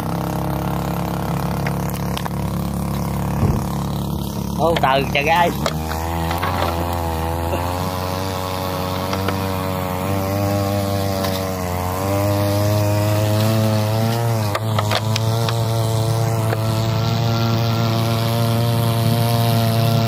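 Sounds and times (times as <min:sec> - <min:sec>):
two-stroke boat motor running: 0:00.0 - 0:20.0.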